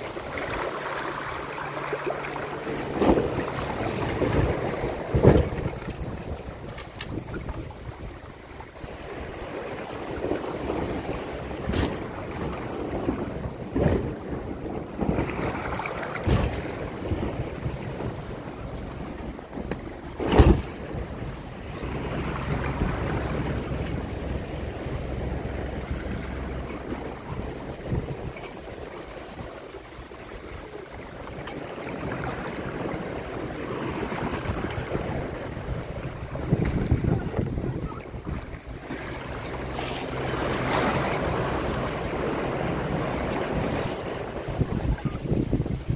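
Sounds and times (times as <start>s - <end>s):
water rushing along a hull: 0.0s - 45.9s
water swishes: 0.0s - 45.9s
wind on the microphone: 2.7s - 45.9s.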